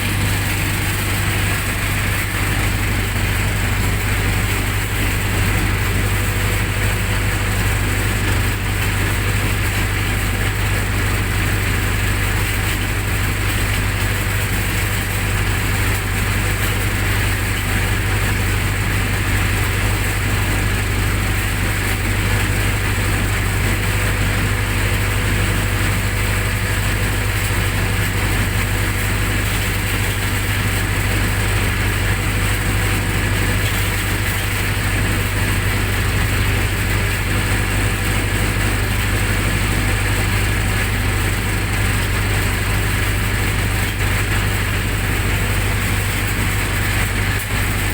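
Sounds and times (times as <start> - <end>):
generator engine humming: 0.0 - 47.9.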